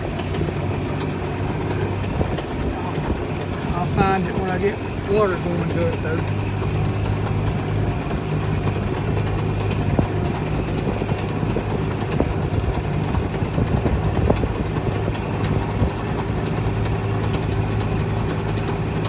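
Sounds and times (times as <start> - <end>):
engine idling: 0.0 - 19.0
light clicks and rattles: 0.0 - 19.0.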